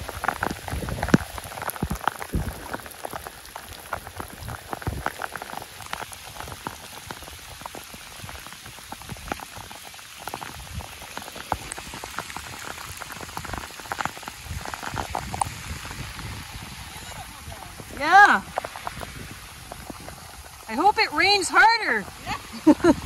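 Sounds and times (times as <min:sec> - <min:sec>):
rain falling on river: 0:00.0 - 0:23.0.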